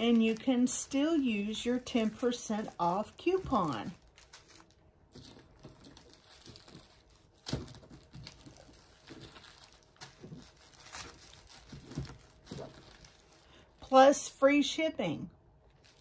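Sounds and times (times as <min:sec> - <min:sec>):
plastic bags crinkling: 0:00.0 - 0:14.0, 0:15.6 - 0:16.0.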